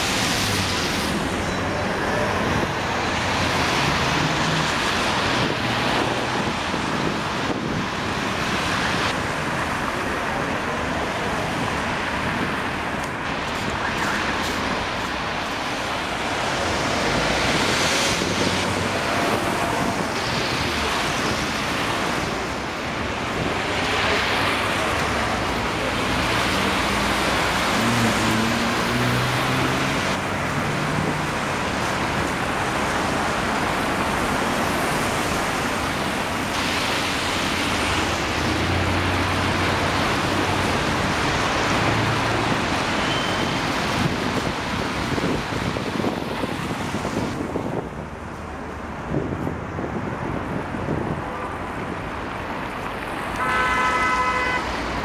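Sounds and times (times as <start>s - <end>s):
trolleybus passing close: 0.0s - 8.4s, 9.2s - 46.6s
road traffic passing: 0.0s - 55.0s.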